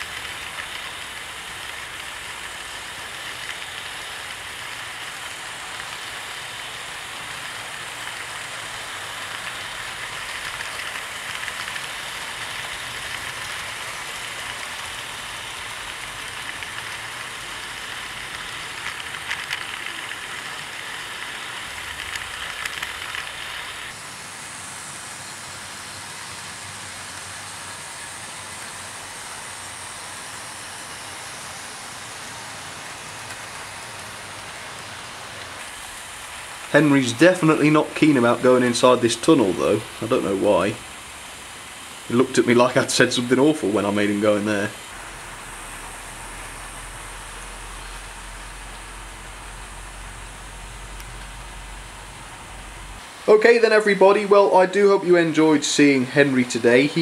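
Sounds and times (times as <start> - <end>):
wheels clicking over rail joints: 0.0 - 24.1, 25.6 - 53.0
model train motor whir: 0.0 - 53.0.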